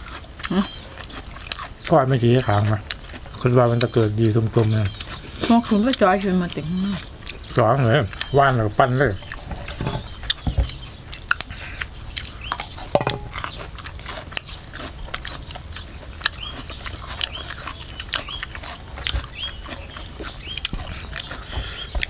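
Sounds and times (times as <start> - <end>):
person chewing with mouth clicks: 0.0 - 22.0.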